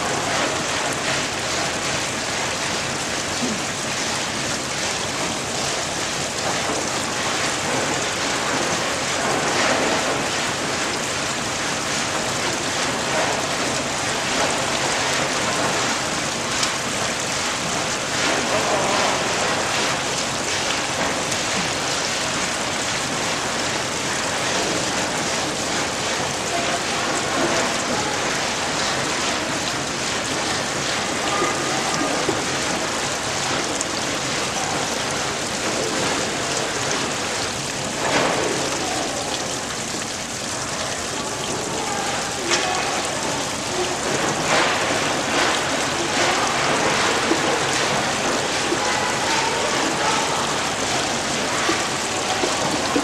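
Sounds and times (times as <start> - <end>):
water running and splashing: 0.0 - 53.0.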